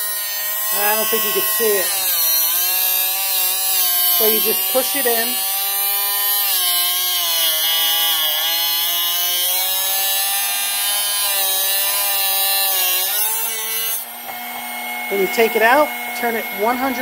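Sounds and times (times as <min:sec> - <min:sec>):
grinding hiss: 0:00.0 - 0:15.4
drill bit sharpener motor: 0:00.0 - 0:17.0.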